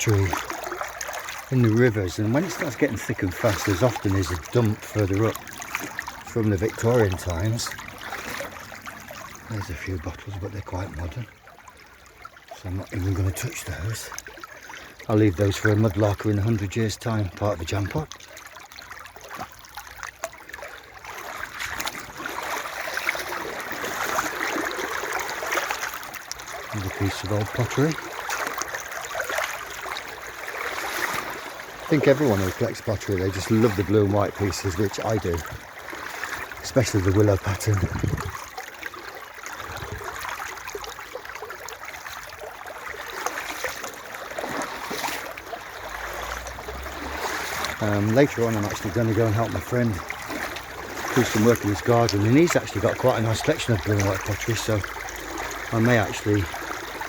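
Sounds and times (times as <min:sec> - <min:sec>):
brook water splashing and trickling: 0:00.0 - 0:57.0.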